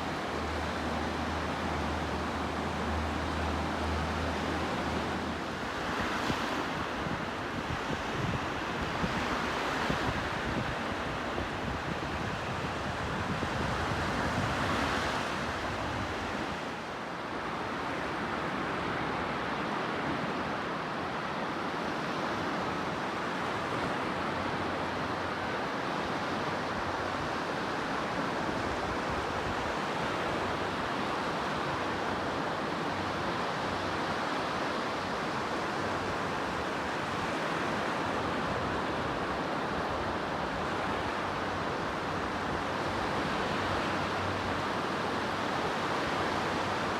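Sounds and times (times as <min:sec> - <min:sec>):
sea surf washing onto shore: 0:00.0 - 0:46.9.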